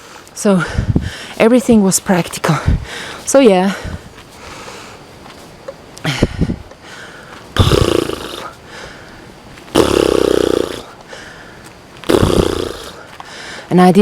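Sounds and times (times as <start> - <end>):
person breathing heavily: 0.0 - 1.4, 2.6 - 5.1, 6.0 - 13.7.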